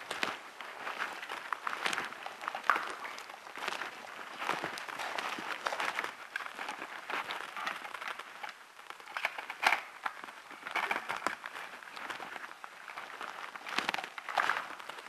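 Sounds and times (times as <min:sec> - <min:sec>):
footsteps on stone floor: 0:00.0 - 0:15.0.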